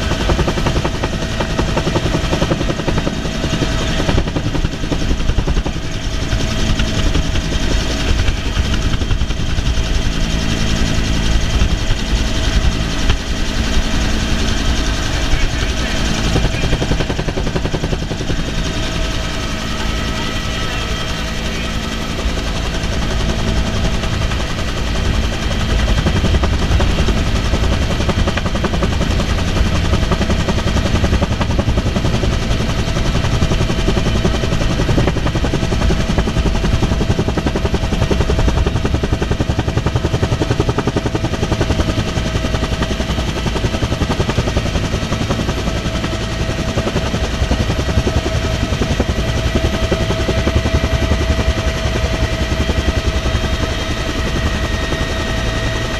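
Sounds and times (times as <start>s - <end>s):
helicopter rotor chopping: 0.0s - 55.9s
turbine whine: 0.0s - 55.9s.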